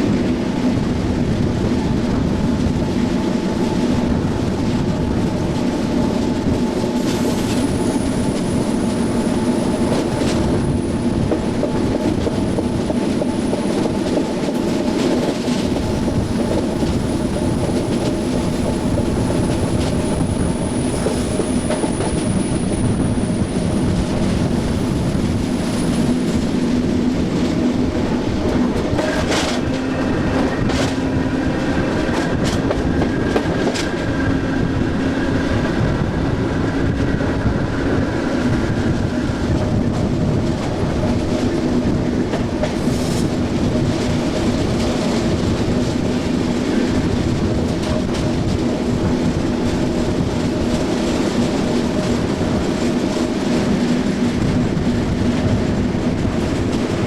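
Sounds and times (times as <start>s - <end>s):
train traction motors humming: 0.0s - 57.0s
wheels rumbling on track: 0.0s - 57.0s.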